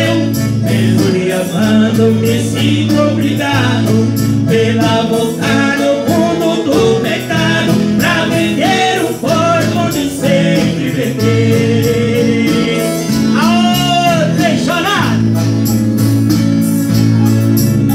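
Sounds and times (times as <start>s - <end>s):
man singing into a microphone: 0.0s - 15.3s
accordion: 0.0s - 17.9s
acoustic guitar: 0.0s - 17.9s
keyboard: 0.0s - 17.9s.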